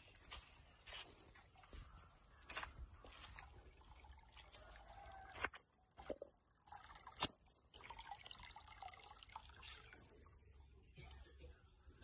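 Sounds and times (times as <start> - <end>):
faint water dripping: 1.3 - 11.4.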